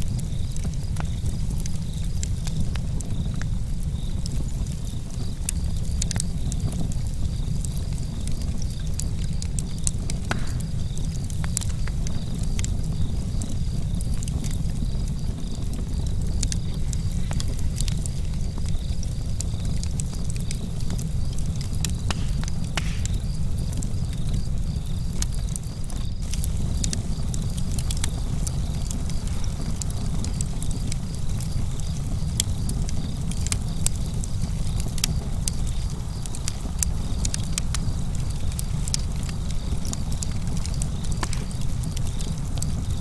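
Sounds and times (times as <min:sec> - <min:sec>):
campfire crackling: 0:00.0 - 0:43.0
crickets chirping: 0:00.0 - 0:43.0.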